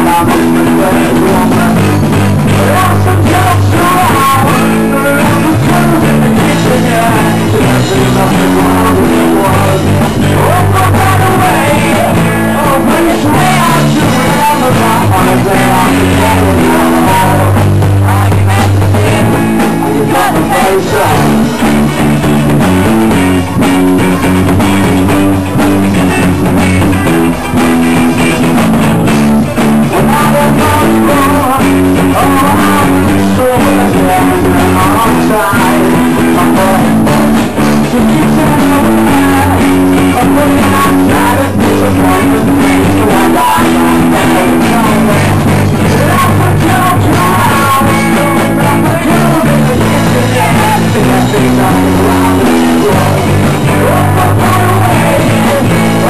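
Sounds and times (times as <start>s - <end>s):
bass guitar: 0.0s - 56.0s
drums: 0.0s - 56.0s
electric guitars: 0.0s - 56.0s
man singing: 0.0s - 56.0s.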